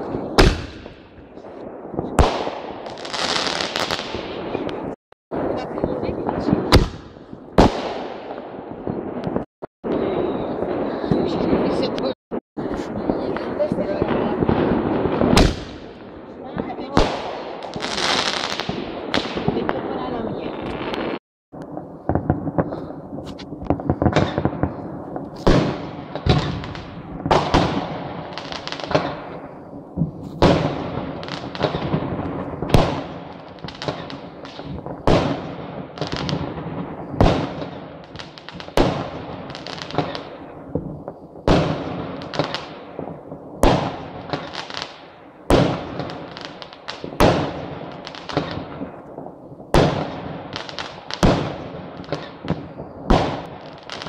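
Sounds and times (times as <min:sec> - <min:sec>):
fireworks bursting with echo: 0:00.0 - 0:54.0.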